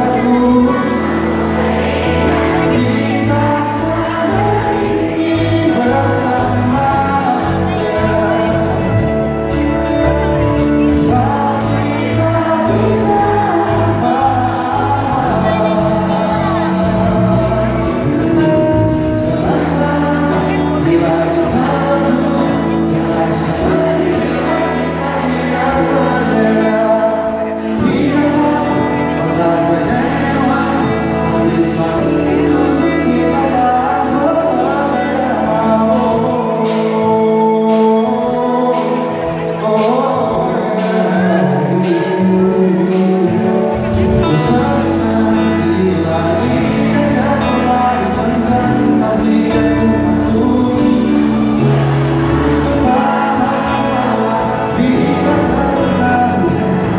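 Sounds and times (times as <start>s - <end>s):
band playing pop ballad: 0.0s - 56.9s
person singing: 0.0s - 56.9s.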